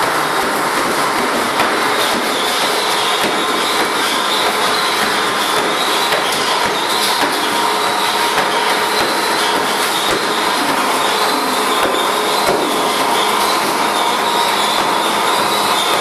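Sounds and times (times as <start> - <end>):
treadmill motor and belt rushing: 0.0 - 16.0.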